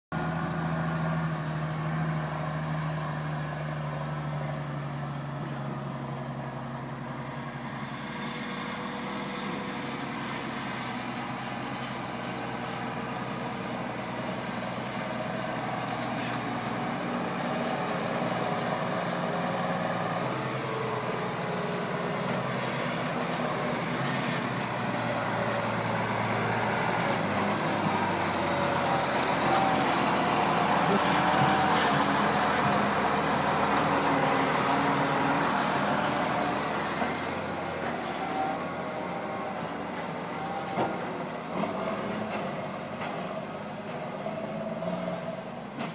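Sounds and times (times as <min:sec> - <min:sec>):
tractor diesel engine under load: 0:00.1 - 0:45.9.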